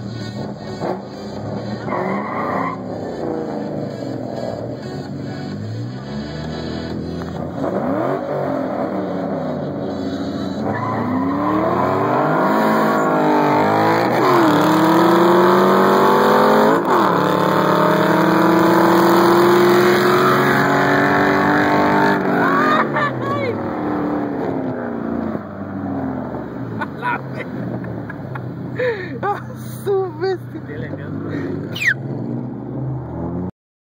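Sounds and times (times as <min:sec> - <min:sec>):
car engine accelerating: 0:00.0 - 0:33.5.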